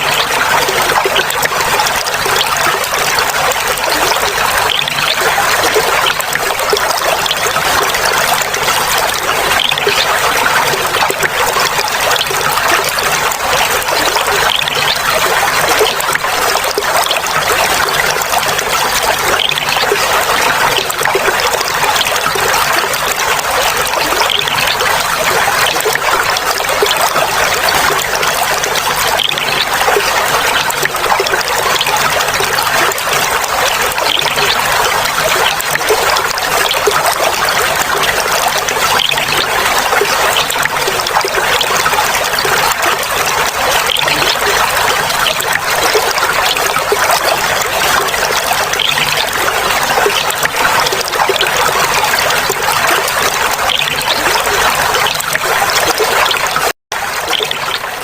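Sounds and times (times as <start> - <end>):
water trickling and babbling: 0.0 - 58.0.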